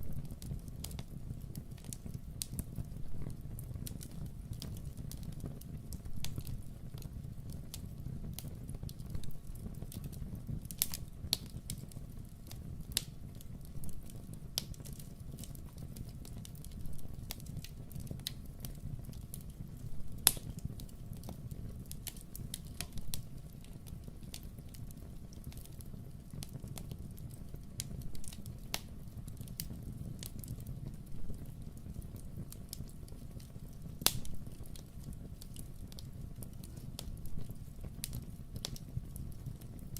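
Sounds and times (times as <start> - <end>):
sharp pops of fire: 0.0 - 39.9
wood fire crackling: 0.0 - 39.9.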